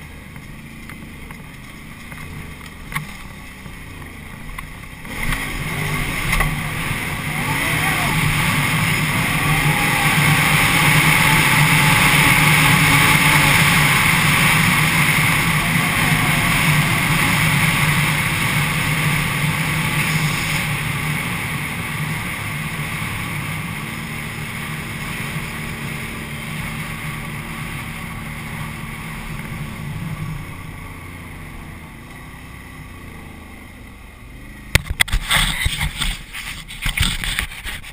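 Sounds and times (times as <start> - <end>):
atv engine running: 0.0 - 37.9
wind and tyre noise: 0.0 - 37.9.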